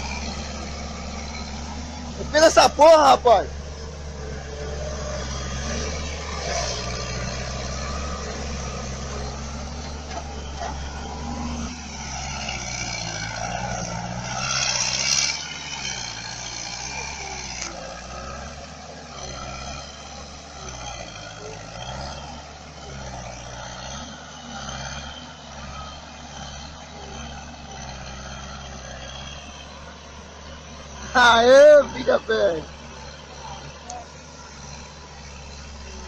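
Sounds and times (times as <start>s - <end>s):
diesel engine running under load: 0.0s - 36.0s.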